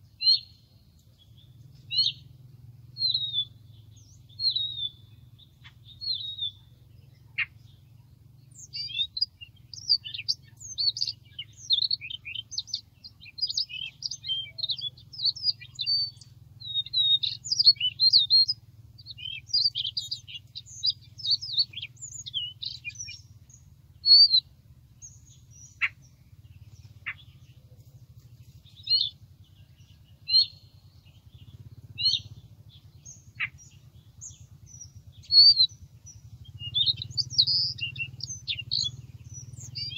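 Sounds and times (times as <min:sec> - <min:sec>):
bird song chirps and warbles: 0:00.0 - 0:39.9
sharp downward bird calls: 0:01.8 - 0:02.3, 0:03.0 - 0:06.6, 0:08.6 - 0:27.7, 0:28.6 - 0:39.9.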